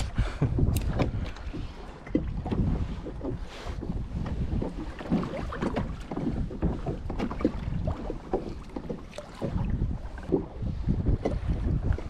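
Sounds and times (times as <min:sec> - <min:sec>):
water slapping kayak hull: 0:00.0 - 0:12.0
wind buffeting microphone: 0:00.0 - 0:12.0.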